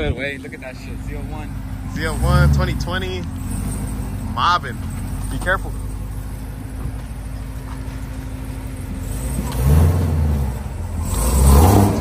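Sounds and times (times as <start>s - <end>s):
car engine rumbling and revving: 0.0s - 12.0s.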